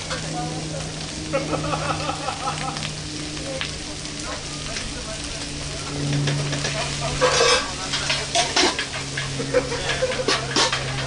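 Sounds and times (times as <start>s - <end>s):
food sizzling on a griddle: 0.0s - 11.0s
low hum: 0.0s - 11.0s.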